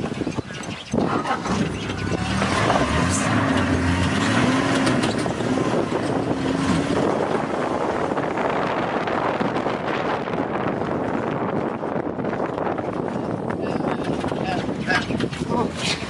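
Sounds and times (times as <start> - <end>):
vehicle engine running: 0.9 - 16.0.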